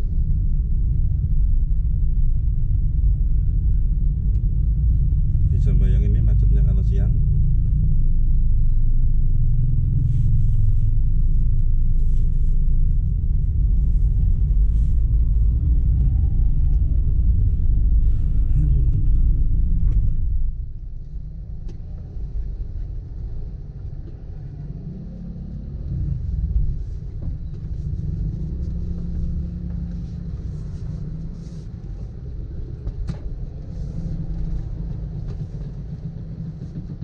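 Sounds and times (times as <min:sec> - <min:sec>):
vehicle rumbling on road: 0:00.0 - 0:37.0.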